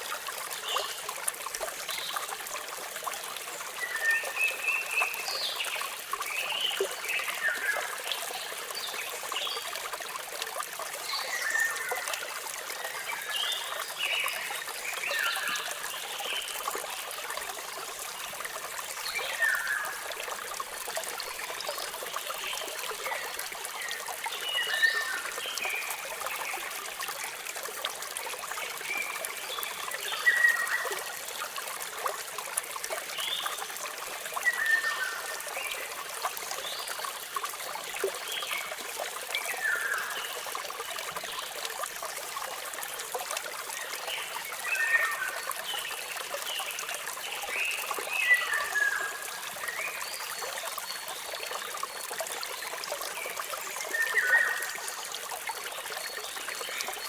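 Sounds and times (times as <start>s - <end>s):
small waterfall splashing: 0.0s - 57.0s.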